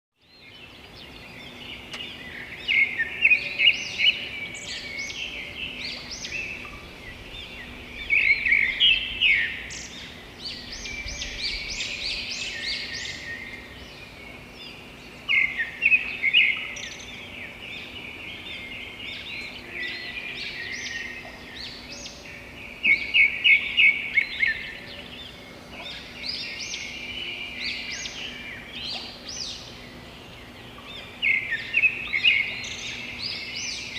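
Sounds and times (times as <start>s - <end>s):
songbirds chirping and singing: 0.2s - 33.9s.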